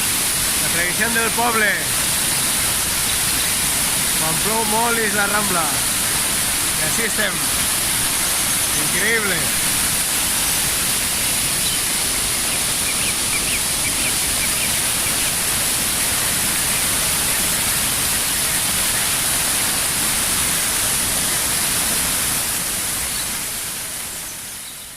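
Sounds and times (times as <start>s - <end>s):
floodwater rushing: 0.0s - 24.6s.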